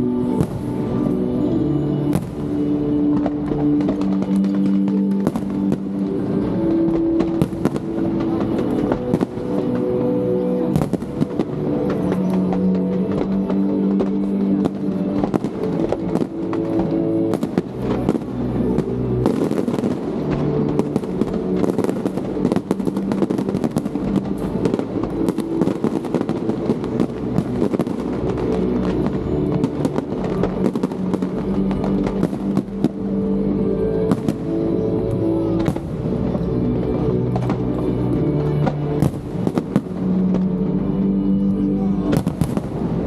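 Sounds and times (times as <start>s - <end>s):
fireworks bursting and crackling: 0.0s - 43.0s
music with long held notes: 0.0s - 43.0s.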